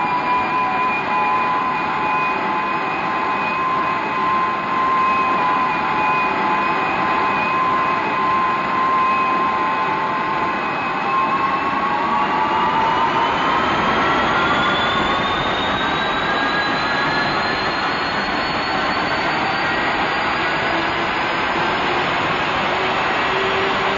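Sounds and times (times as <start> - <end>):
jet engine rushing and whining: 0.0 - 23.9.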